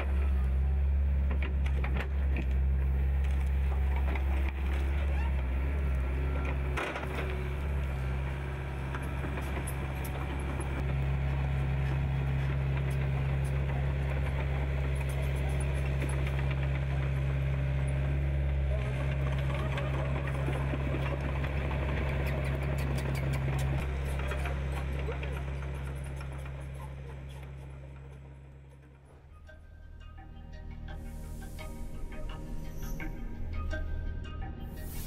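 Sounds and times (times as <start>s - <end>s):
excavator diesel engine humming: 0.0s - 35.0s.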